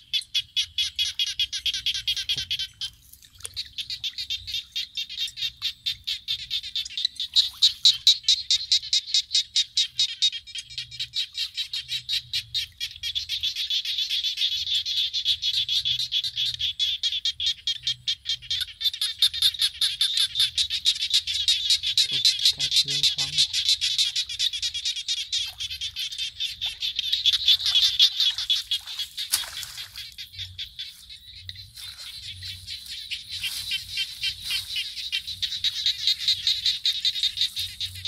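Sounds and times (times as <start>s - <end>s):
frogs calling: 0.0s - 38.0s.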